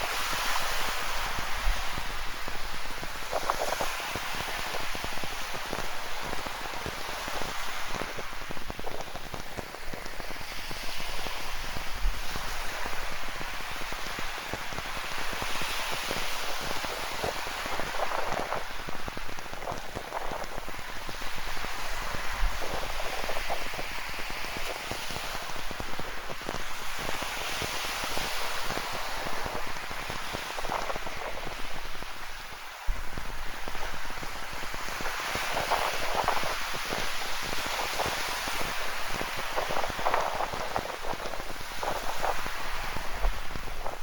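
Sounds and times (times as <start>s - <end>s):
ocean surf on shore: 0.0s - 44.0s
rain patter: 0.0s - 44.0s.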